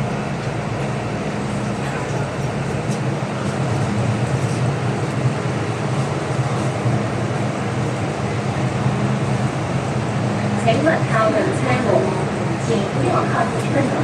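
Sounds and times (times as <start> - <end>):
train equipment humming: 0.0 - 14.0.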